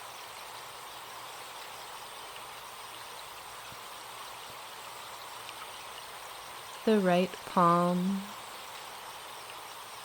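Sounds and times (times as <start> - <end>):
stream running: 0.0 - 10.0.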